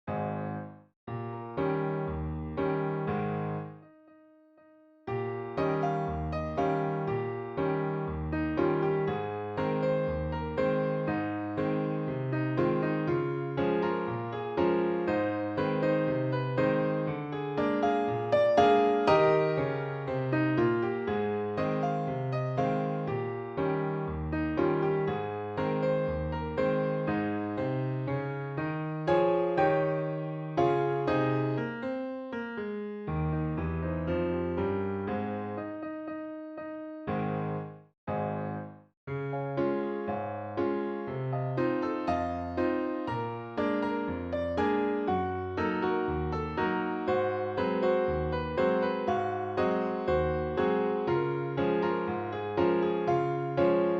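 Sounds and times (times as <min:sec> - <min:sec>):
gentle piano melody: 0:00.1 - 0:53.9.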